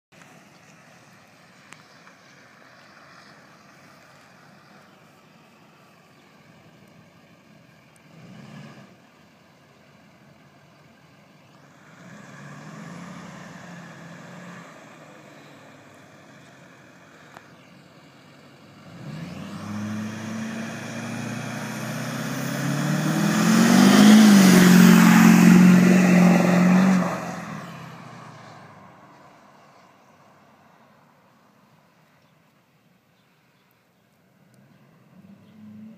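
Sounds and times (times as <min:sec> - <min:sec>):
diesel truck engine accelerating: 0:00.2 - 0:30.4.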